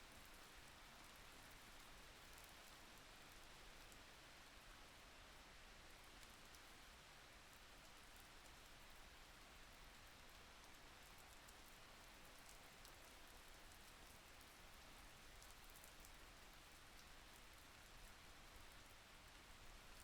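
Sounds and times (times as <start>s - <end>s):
faint steady rain: 0.0s - 20.0s.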